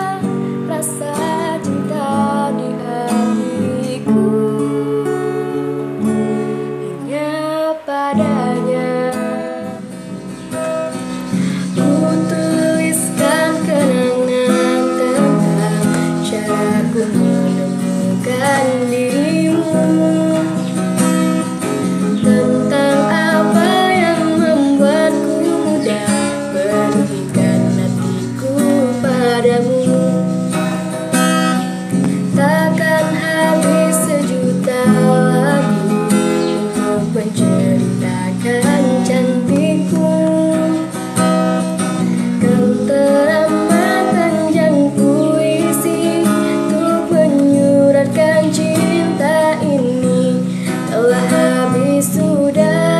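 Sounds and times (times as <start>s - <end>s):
acoustic guitar strumming: 0.0s - 52.9s
woman singing: 0.0s - 52.9s.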